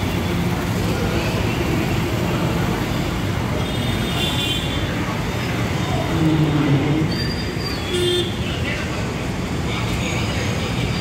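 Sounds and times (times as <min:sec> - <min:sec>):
road traffic and engines: 0:00.0 - 0:11.0.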